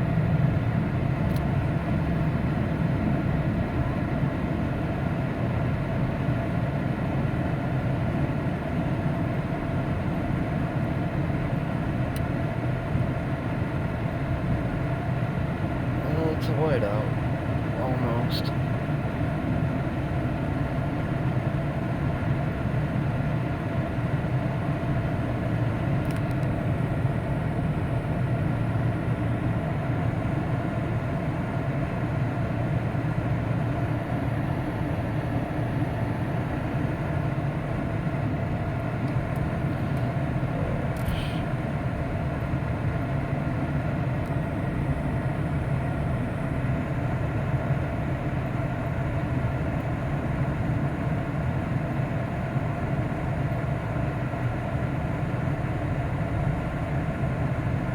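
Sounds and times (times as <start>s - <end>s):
vehicle engine and road drone: 0.0s - 57.9s.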